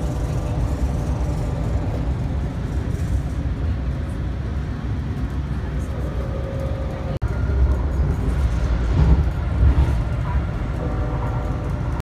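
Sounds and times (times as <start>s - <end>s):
low rumble with engine whine: 0.0s - 12.0s.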